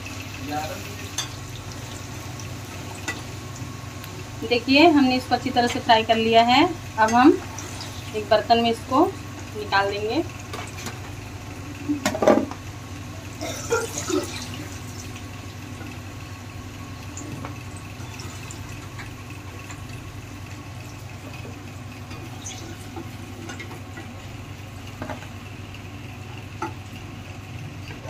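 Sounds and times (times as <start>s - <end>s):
hot oil sizzling: 0.0s - 28.0s.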